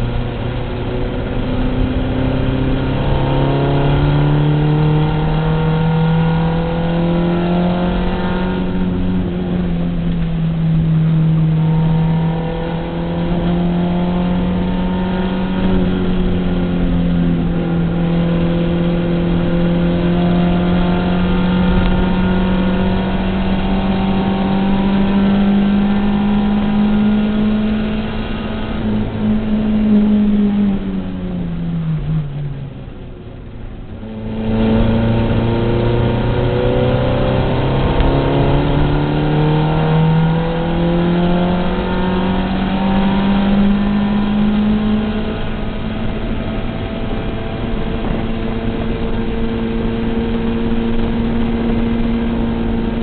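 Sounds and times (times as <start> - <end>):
race car engine revving: 0.0 - 32.6, 33.4 - 53.0
road and wind noise: 0.0 - 53.0.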